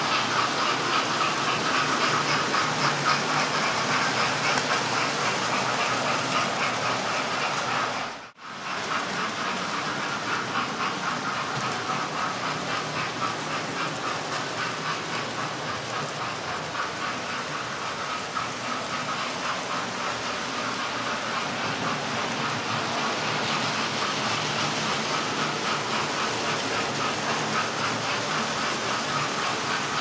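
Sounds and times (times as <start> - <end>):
wheels clicking over rails: 0.0 - 30.0.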